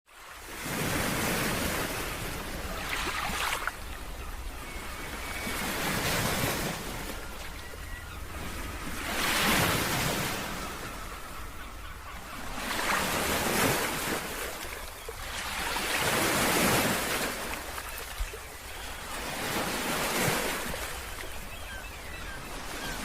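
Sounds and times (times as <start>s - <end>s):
ocean waves breaking: 0.2s - 23.0s.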